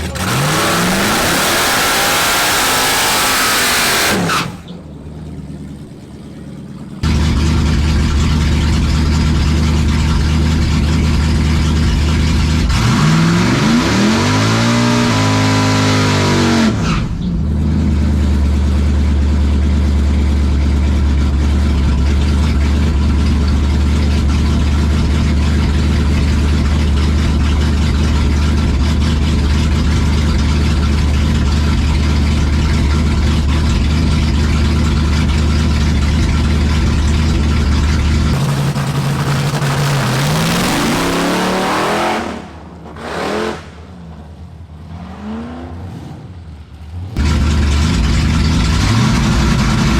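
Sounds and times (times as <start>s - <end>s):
drag car engine revving: 0.0s - 49.9s.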